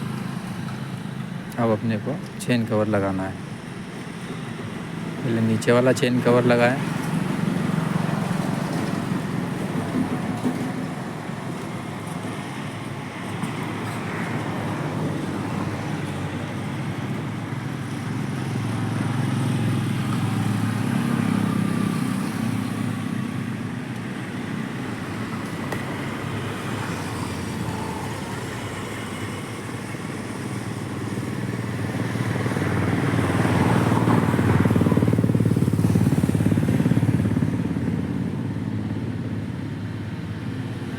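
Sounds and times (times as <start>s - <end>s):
road traffic rumble: 0.0s - 40.9s.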